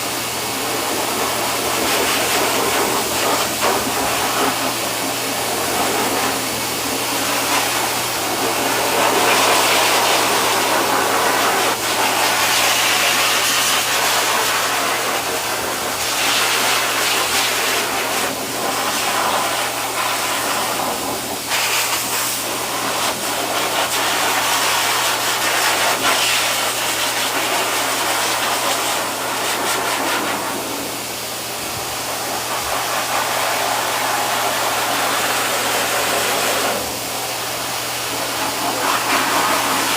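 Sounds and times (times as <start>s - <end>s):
dryer blowing air: 0.0s - 39.9s
dryer motor humming: 0.0s - 39.9s.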